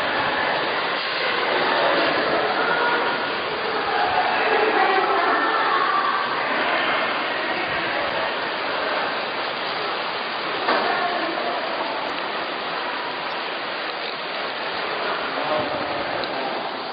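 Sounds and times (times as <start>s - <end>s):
heavy rain: 0.0s - 16.9s
wind: 0.0s - 16.9s.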